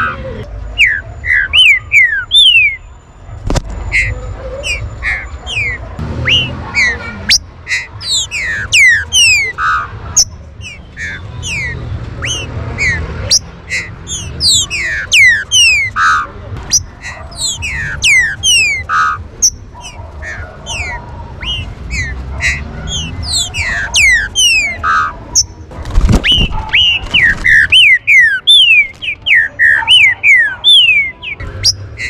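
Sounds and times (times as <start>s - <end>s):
birds whistling calls: 0.7s - 3.0s, 3.7s - 32.0s.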